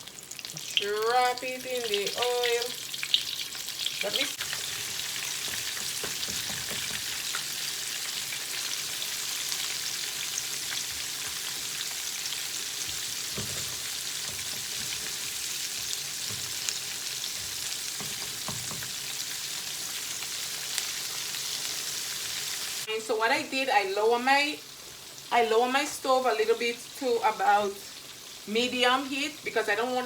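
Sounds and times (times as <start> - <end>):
chicken deep-frying in oil: 0.0 - 30.0.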